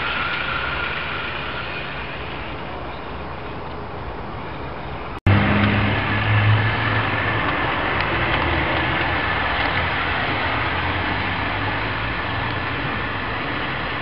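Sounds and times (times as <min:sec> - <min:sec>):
high motor whine: 0:00.0 - 0:04.1, 0:05.2 - 0:14.0
model train rumbling on track: 0:00.0 - 0:14.0.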